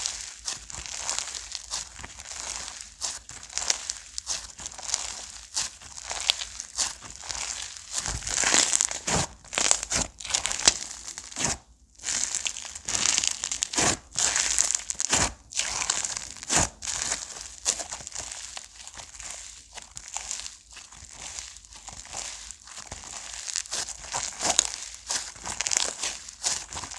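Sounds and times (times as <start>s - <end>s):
slime crackling and popping: 0.0s - 26.9s.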